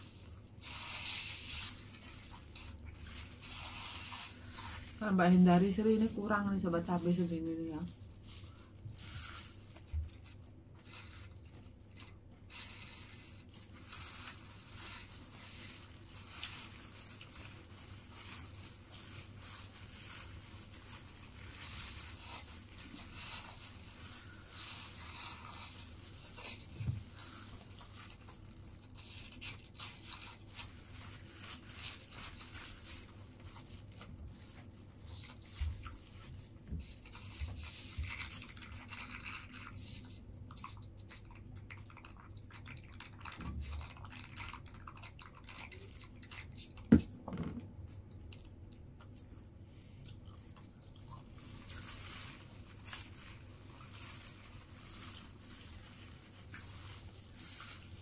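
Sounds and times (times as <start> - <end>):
paper wrapper rustling: 0.0 - 40.1, 50.6 - 58.0
plastic glove crinkling: 0.0 - 48.4, 50.1 - 58.0
chewing: 7.8 - 47.0, 50.0 - 58.0.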